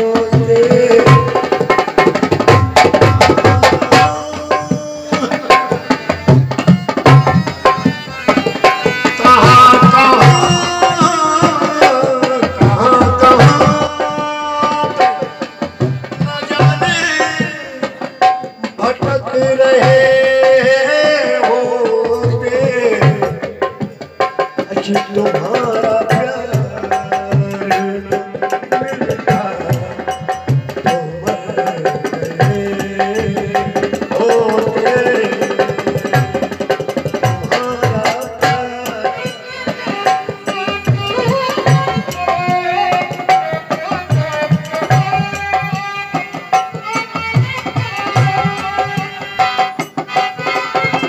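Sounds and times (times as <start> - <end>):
dholak drum rhythm: 0.0 - 51.0
keyboard and harmonium melody: 0.0 - 51.0.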